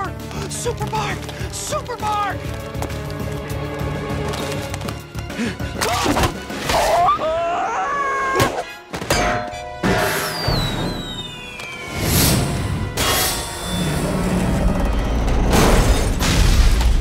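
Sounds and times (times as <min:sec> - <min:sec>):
orchestral music: 0:00.0 - 0:16.3.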